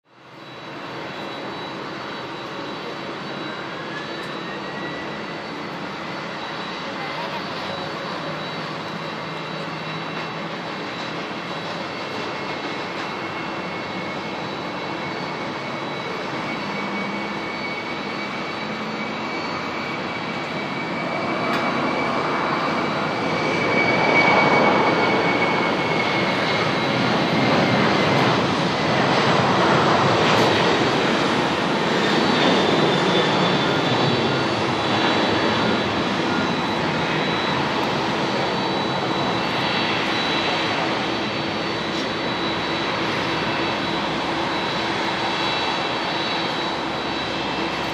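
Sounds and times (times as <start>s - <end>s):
jet engines at takeoff thrust: 0.1s - 47.9s.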